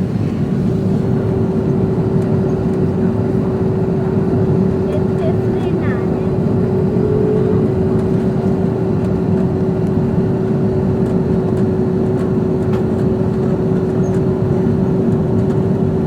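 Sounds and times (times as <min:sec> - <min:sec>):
jet engine and airflow rush: 0:00.0 - 0:16.0.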